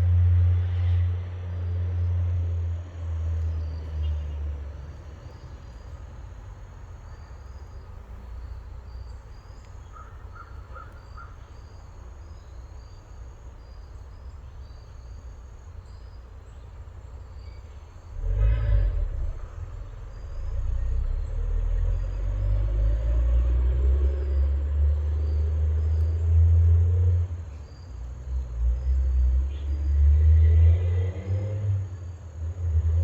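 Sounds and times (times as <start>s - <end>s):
vehicle engine rumble: 0.0s - 33.0s
insects chirping: 2.7s - 33.0s.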